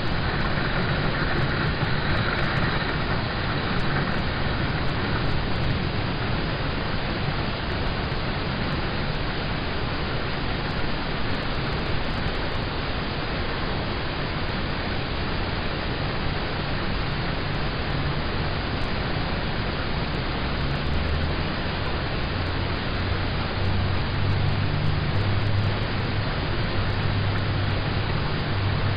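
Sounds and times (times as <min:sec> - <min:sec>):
rain on a car roof: 0:00.0 - 0:28.9.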